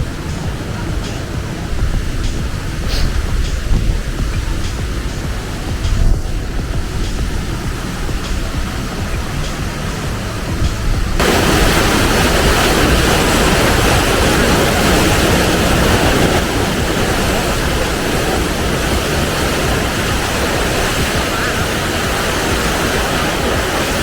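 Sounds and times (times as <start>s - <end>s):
waterfall rushing water: 0.0s - 24.0s.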